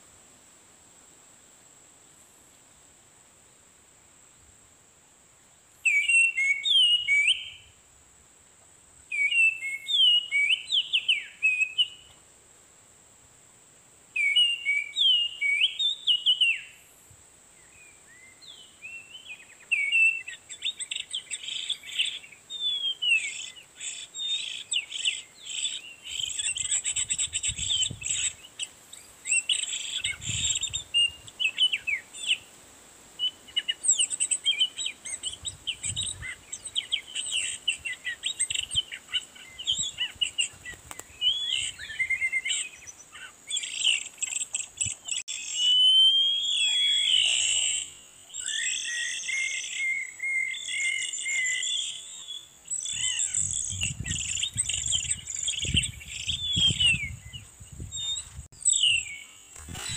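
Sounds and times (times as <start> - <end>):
bird song whistles and chirps: 5.8 - 7.8, 9.1 - 12.2, 14.2 - 16.8, 17.6 - 32.5, 33.2 - 59.9.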